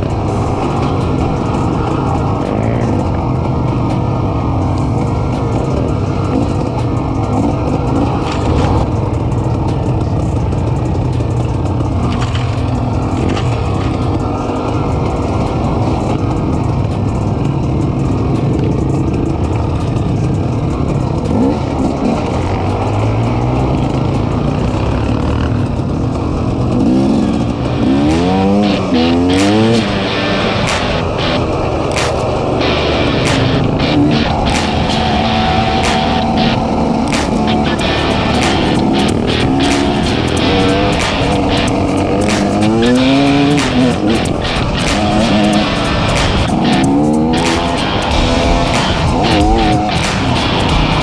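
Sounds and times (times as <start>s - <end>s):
off-road vehicle engine running: 0.0s - 51.0s.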